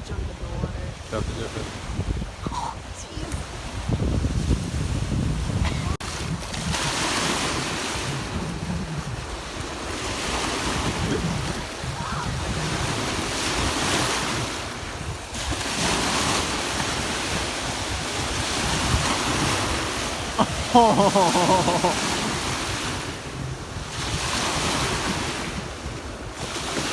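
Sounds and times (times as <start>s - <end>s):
wind buffeting microphone: 0.0s - 20.7s, 21.6s - 26.9s
waves breaking on beach: 0.0s - 26.9s.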